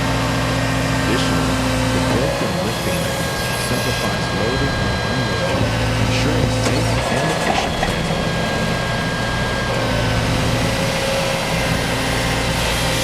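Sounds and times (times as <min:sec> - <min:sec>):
faint whining tones: 0:00.0 - 0:13.0
heavy machinery engine hum: 0:00.0 - 0:13.0.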